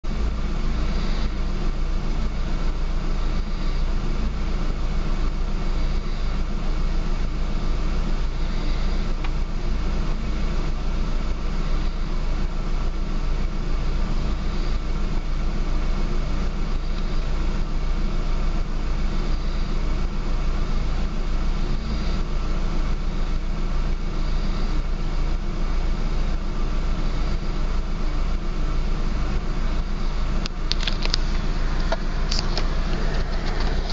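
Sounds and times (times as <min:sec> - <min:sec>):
car engine idling roughly: 0:00.0 - 0:33.9.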